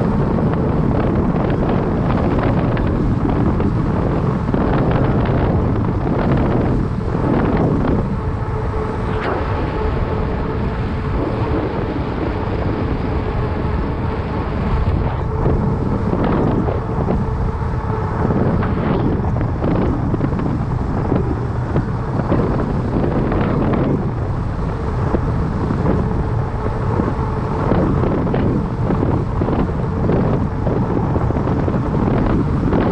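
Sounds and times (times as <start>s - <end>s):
bike rolling rumble: 0.0s - 32.9s
wind buffeting microphone: 0.0s - 32.9s.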